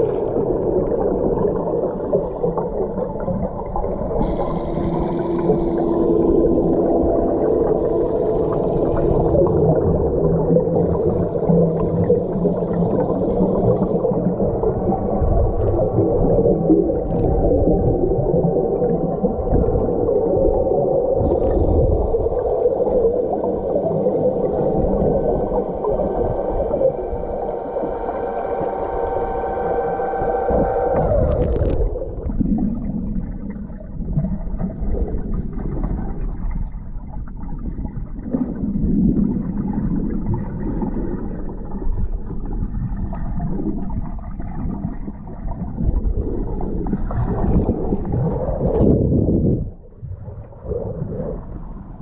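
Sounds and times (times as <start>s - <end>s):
muffled underwater gurgling: 0.0s - 52.0s
steady droning hum: 0.0s - 52.0s.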